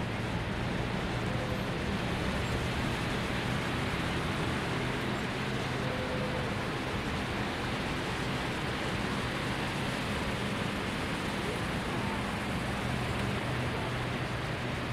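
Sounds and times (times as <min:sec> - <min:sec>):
low engine hum: 0:00.0 - 0:14.9
water churned by vehicles: 0:00.0 - 0:14.9.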